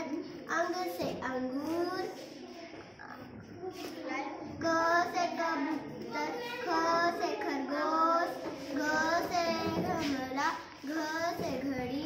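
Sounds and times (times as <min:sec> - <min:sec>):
child chanting syllables: 0:00.0 - 0:12.0.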